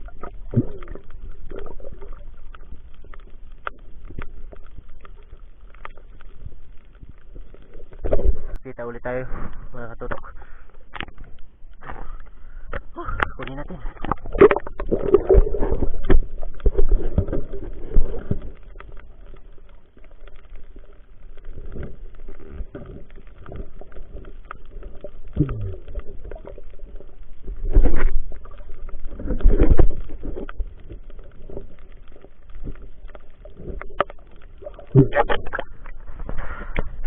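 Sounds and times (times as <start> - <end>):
rushes of water: 0.0 - 8.6, 9.2 - 37.0
muffled underwater water noise: 0.0 - 37.0.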